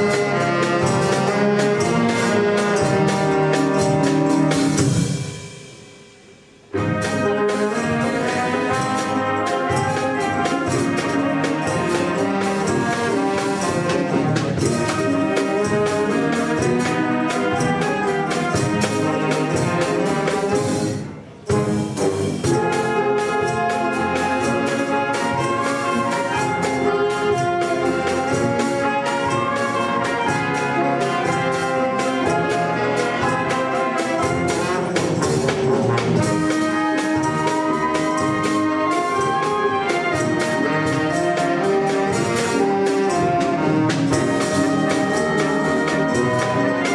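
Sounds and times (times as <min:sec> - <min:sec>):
wind band playing: 0:00.0 - 0:46.9.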